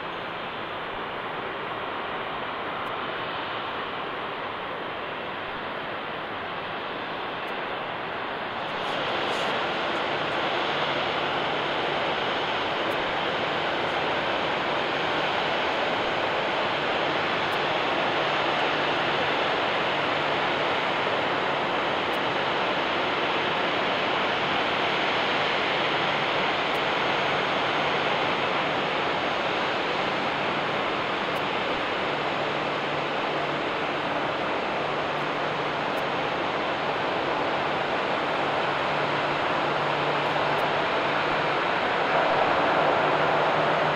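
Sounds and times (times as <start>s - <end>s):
jet engine rush: 0.0s - 43.9s.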